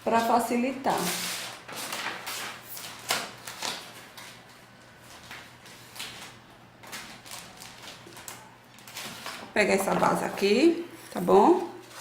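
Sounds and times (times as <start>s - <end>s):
paper rustling: 1.0s - 12.0s.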